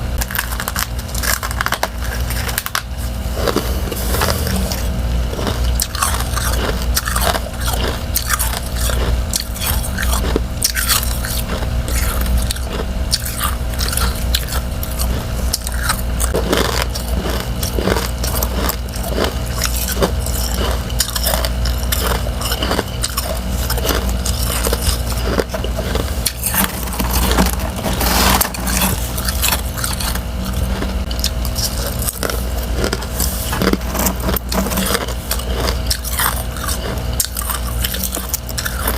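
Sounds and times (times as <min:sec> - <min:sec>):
chewing crunchy frost: 0:00.0 - 0:38.9
steady low hum: 0:00.0 - 0:38.9.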